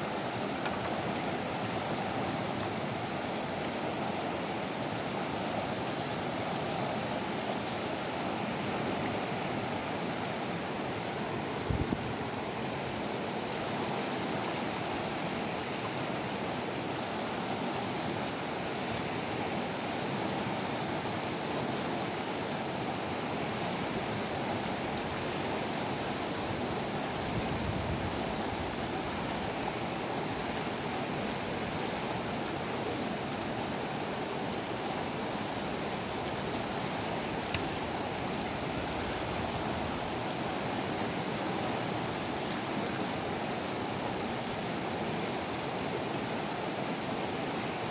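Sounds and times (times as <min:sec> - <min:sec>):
river rapids rushing: 0:00.0 - 0:47.9.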